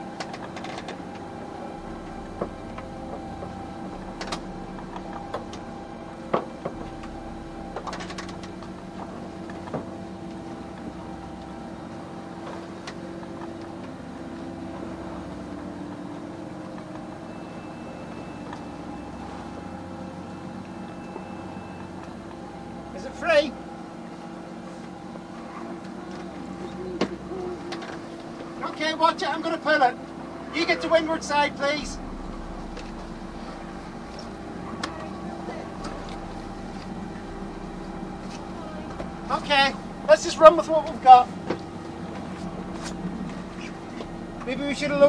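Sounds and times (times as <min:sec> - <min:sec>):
diesel engine running at low revs: 0:00.0 - 0:45.0.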